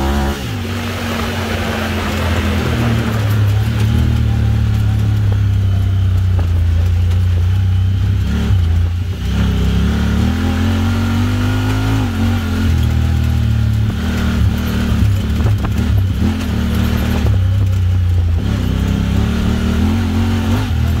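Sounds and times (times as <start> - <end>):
side-by-side engine accelerating: 0.0 - 21.0.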